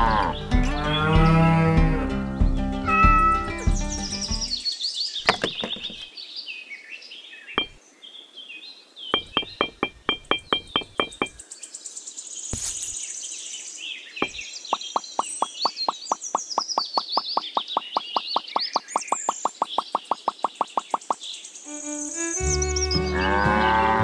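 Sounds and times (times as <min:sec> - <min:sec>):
birds chirping and singing: 0:00.0 - 0:24.0.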